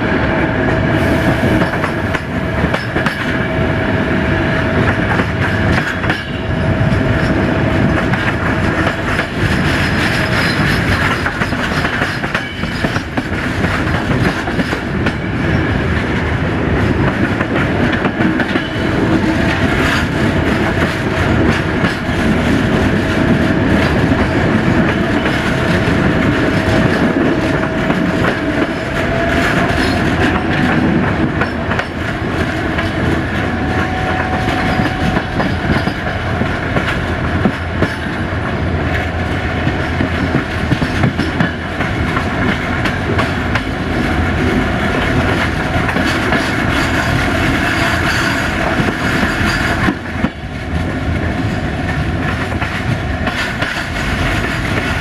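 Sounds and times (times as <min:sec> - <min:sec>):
train rolling rumble: 0:00.0 - 0:55.0.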